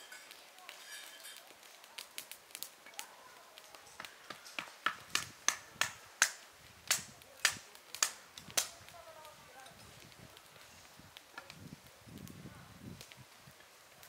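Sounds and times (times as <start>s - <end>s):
sharp cracks or snaps: 0.2s - 12.4s.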